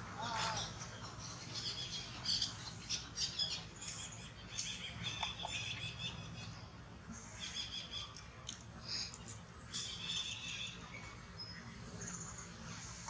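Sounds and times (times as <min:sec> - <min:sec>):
birds chirping: 0:00.0 - 0:13.0
low background hum: 0:00.0 - 0:13.0.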